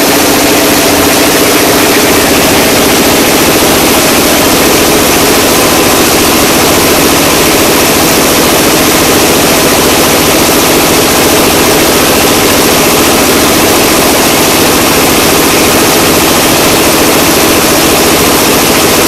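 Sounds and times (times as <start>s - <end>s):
machine engine pulsing: 0.0s - 19.0s.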